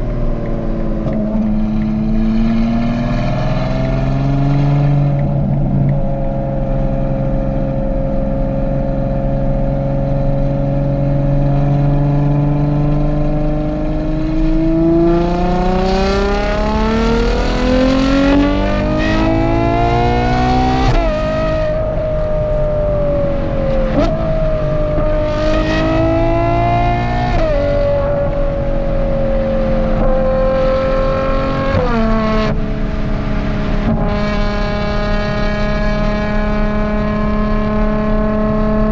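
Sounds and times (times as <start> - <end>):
sports car engine revving: 0.0 - 38.9.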